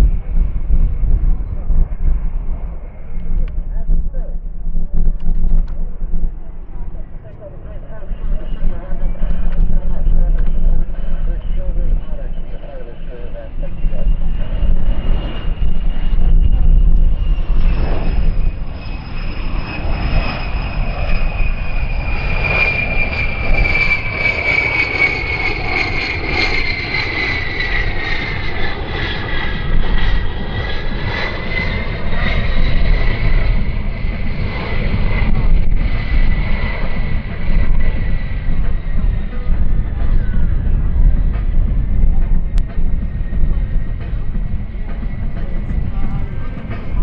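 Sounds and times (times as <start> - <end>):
jet engines whining: 0.0 - 47.0
low rumble: 0.0 - 47.0.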